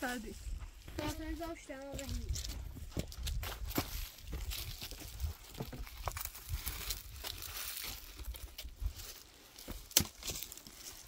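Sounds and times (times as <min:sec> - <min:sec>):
firewood twigs crackling and snapping: 0:00.7 - 0:11.0.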